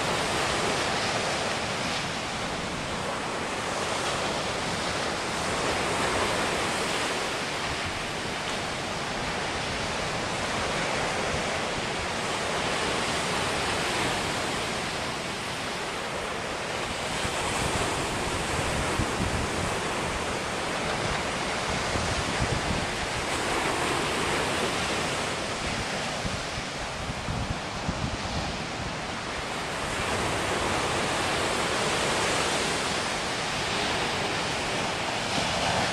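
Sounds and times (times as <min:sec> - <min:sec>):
waves breaking on beach: 0:00.0 - 0:35.9.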